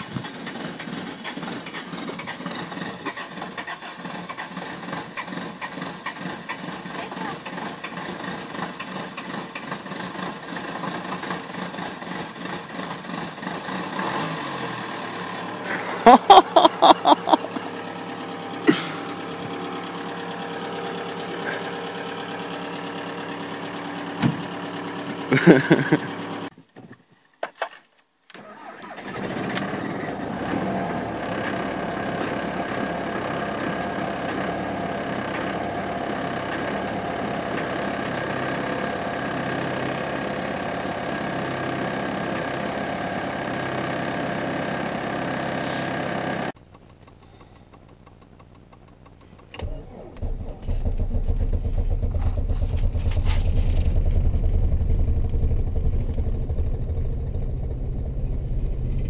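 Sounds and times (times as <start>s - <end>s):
diesel engine idling: 0.0s - 14.0s, 14.6s - 26.5s, 29.9s - 59.0s
diesel engine starting: 0.0s - 26.5s, 28.3s - 59.0s.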